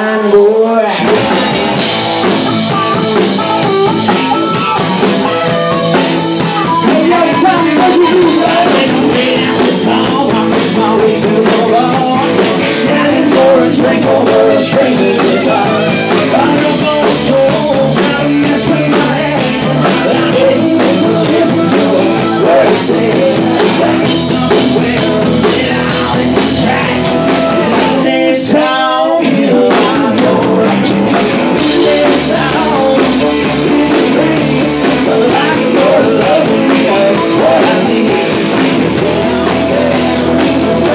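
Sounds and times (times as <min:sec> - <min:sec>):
drums: 0:00.0 - 0:40.9
electric guitars: 0:00.0 - 0:40.9
person singing: 0:00.0 - 0:40.9.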